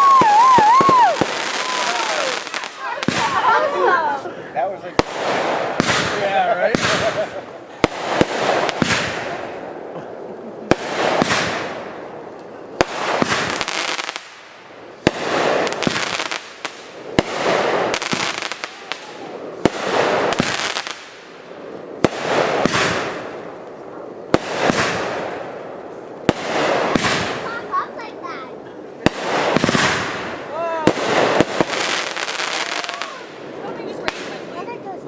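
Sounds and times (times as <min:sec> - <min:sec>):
firework launch cracks: 0:00.0 - 0:03.8, 0:04.9 - 0:09.9, 0:10.6 - 0:28.1, 0:29.0 - 0:34.4
firework bursts: 0:00.0 - 0:04.2, 0:04.8 - 0:35.0.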